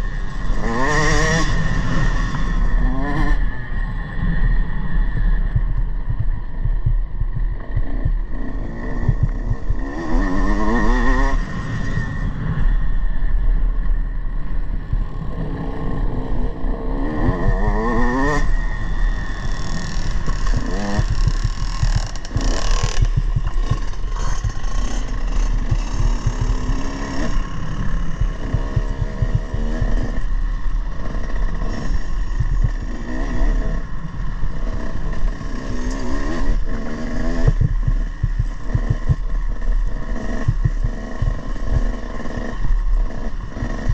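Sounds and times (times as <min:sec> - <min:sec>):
motocross bike engine revving: 0:00.0 - 0:03.7, 0:07.6 - 0:12.7, 0:15.0 - 0:43.9
heavy low rumble: 0:03.4 - 0:09.9, 0:12.2 - 0:43.9.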